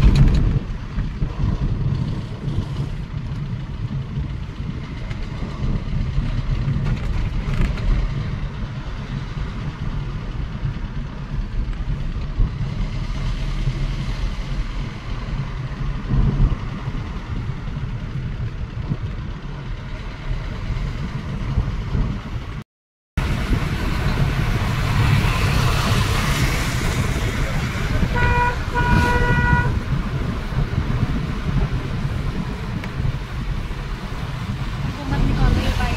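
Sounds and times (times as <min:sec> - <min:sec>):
car engine and tyre rumble: 0:00.0 - 0:22.6, 0:23.2 - 0:35.9.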